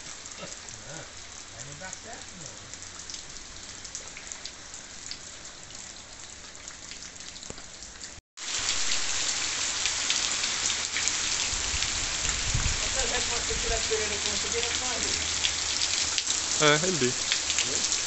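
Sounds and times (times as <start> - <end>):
rain falling on leaves: 0.0 - 18.0.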